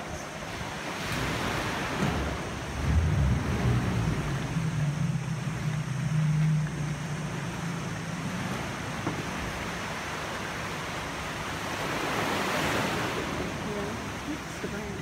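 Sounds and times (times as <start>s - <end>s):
boat engine humming: 0.0s - 15.0s
sea waves washing: 0.0s - 15.0s.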